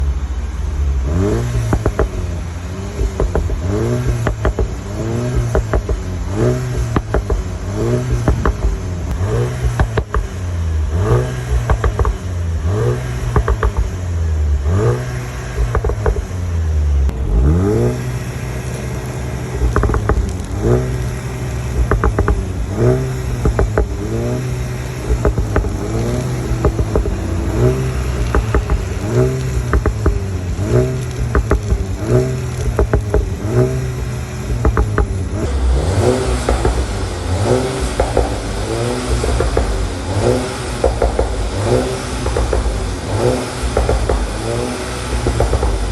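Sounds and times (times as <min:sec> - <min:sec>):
car engine revving: 0:00.0 - 0:45.9
exhaust crackles and pops: 0:00.0 - 0:45.9.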